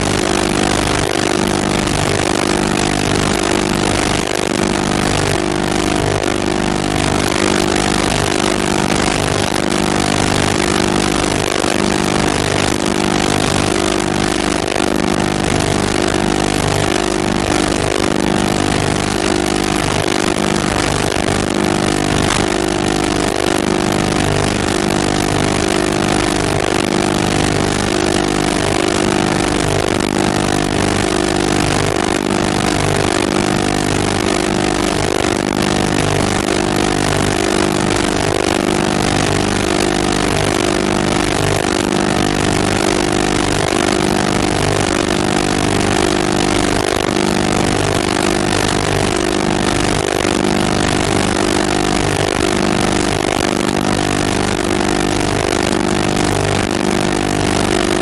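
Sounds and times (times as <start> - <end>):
mechanical drone: 0.0 - 58.0.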